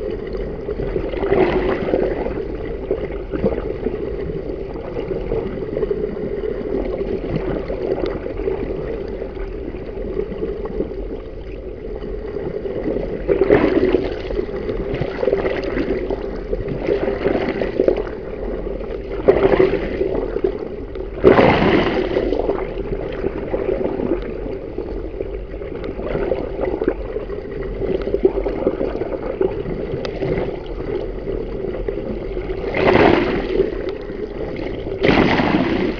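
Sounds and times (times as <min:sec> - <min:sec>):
constant hum: 0:00.0 - 0:35.9
water rushing over camera: 0:00.0 - 0:35.9.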